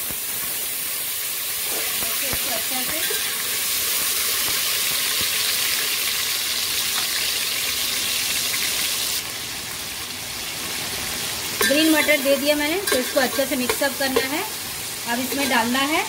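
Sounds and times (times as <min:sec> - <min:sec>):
peas sizzling in hot oil: 0:00.0 - 0:16.0.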